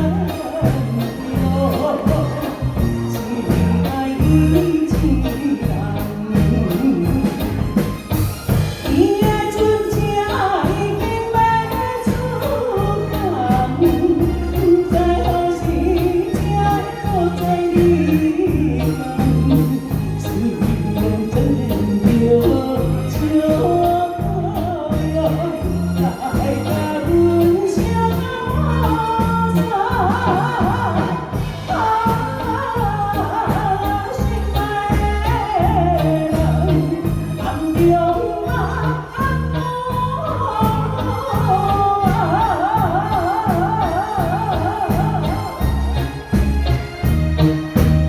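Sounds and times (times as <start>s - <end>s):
woman singing: 0.0s - 46.6s
instrumental music with bass beat: 0.0s - 48.0s.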